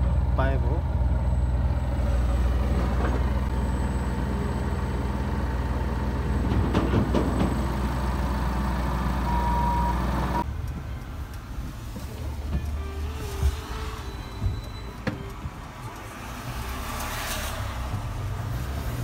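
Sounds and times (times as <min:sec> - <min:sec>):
large engine humming: 0:00.0 - 0:19.0.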